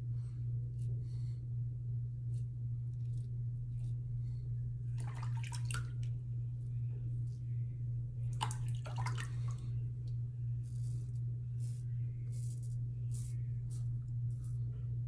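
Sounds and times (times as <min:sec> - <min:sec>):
electrical hum from light fixture: 0:00.0 - 0:15.0.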